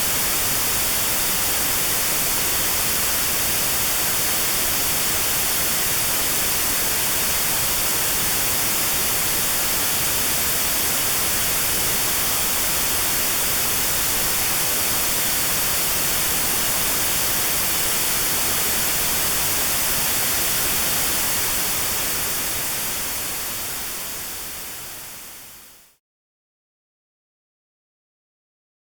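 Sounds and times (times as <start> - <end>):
white noise hiss: 0.0 - 26.0.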